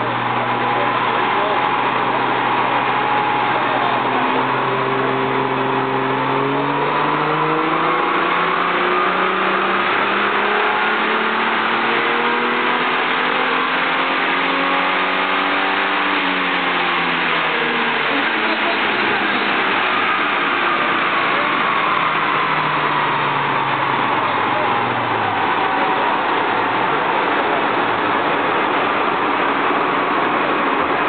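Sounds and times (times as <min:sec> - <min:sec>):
car engine revving under load: 0:00.0 - 0:31.0.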